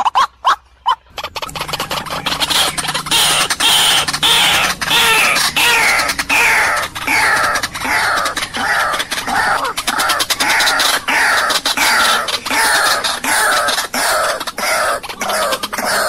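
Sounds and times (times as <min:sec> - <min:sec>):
waterhen calling: 0:00.1 - 0:16.0.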